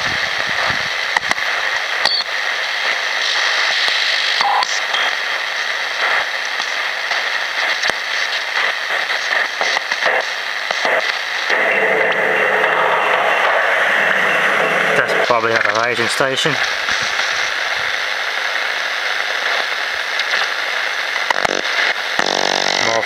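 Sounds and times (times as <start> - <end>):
radio static hiss: 0.0 - 23.0
radio station audio: 0.0 - 23.0.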